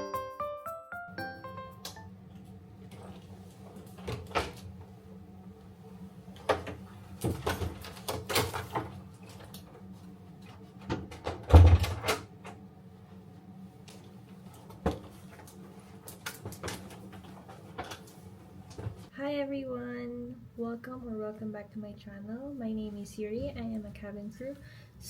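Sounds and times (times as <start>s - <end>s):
low steady hum: 1.1s - 25.0s.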